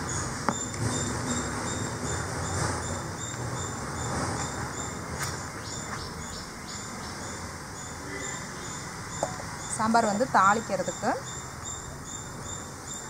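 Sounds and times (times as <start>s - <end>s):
insects chirping: 0.0s - 13.0s
low steady background noise: 0.0s - 13.0s.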